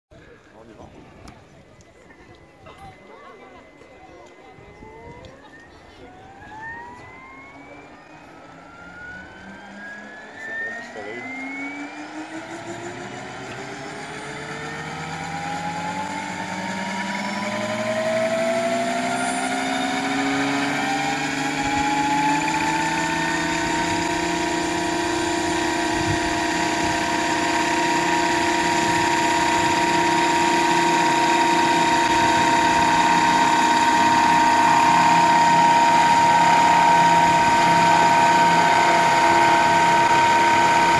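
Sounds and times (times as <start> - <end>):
model helicopter rotor whine: 0.2 - 40.9.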